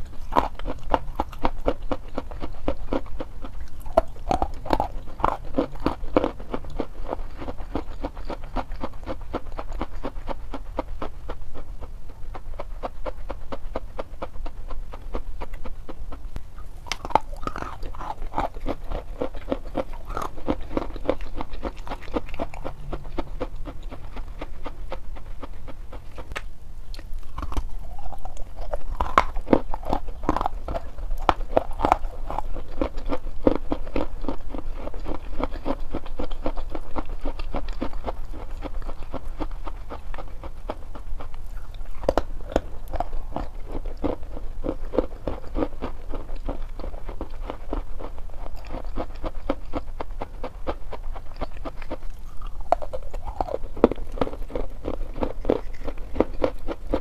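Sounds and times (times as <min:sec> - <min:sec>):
chalk being chewed: 0:00.0 - 0:57.0.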